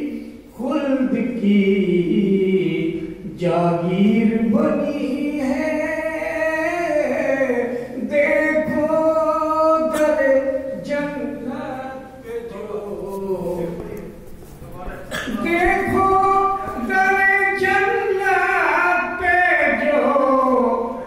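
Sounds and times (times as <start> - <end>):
man singing into a microphone: 0.0 - 14.2, 15.2 - 21.0.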